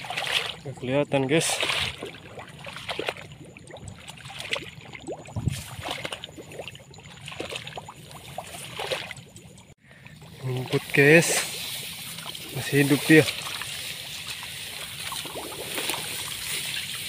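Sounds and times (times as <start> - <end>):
light watery sloshing: 0.0 - 17.0.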